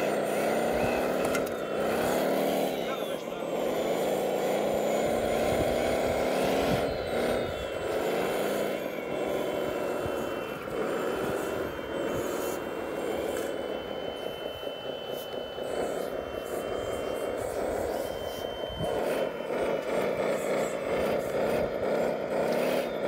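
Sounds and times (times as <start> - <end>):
steady high whine: 0.0 - 23.0
toy wheel loader running: 0.0 - 23.0.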